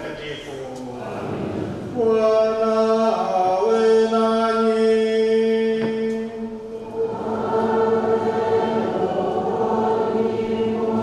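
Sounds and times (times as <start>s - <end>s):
choir and congregation singing: 0.9s - 11.0s.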